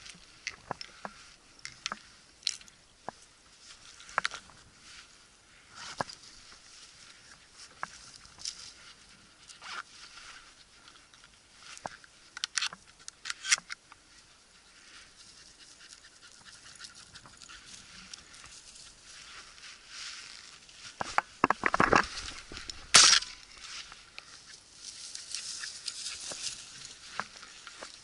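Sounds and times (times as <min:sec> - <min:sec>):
footsteps in dry grass on stones: 0:00.0 - 0:28.0.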